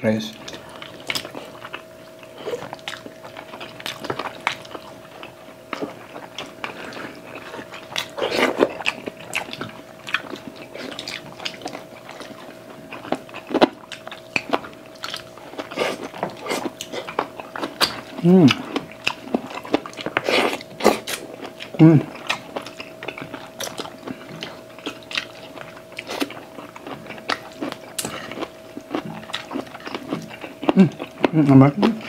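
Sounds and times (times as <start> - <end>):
faint steady hum: 0.0 - 32.0
chewing and lip smacks: 0.4 - 32.0.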